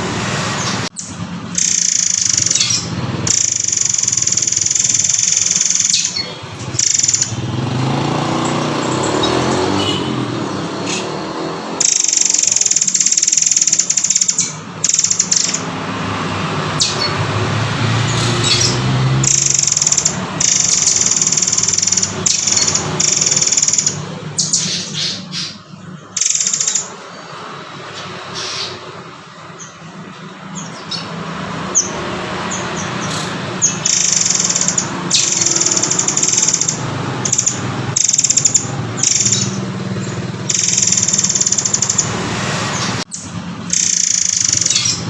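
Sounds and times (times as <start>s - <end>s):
bird singing shrill trills: 0.6s - 45.0s.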